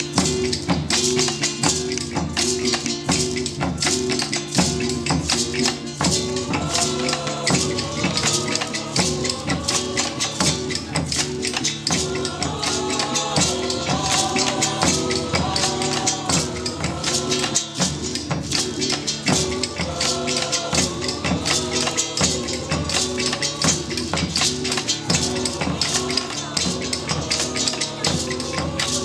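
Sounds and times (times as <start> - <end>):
hand percussion rattling beat: 0.0 - 29.0.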